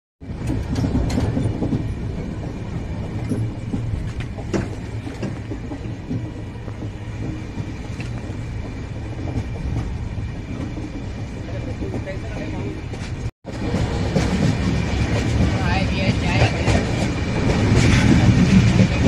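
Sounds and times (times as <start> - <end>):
train rumbling: 0.2 - 19.0
wheels clacking over rail joints: 0.3 - 19.0.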